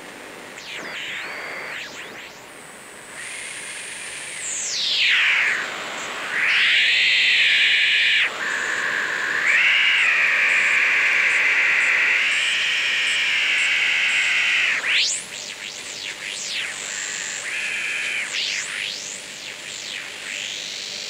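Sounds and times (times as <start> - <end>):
radio hiss: 0.0 - 21.0
radio heterodyne whistle: 0.6 - 21.0
squealing radio whistles sweeping: 0.6 - 21.0.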